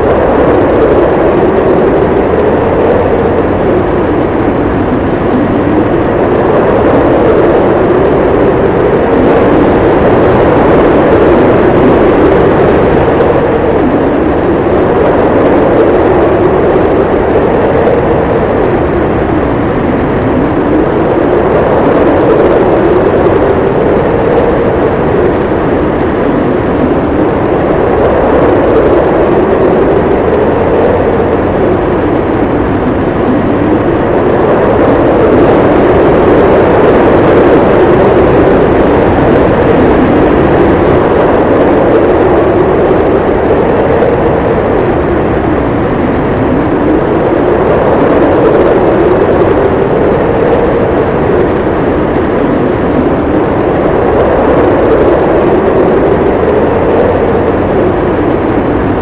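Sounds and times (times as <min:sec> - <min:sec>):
blizzard wind howling: 0:00.0 - 0:59.0.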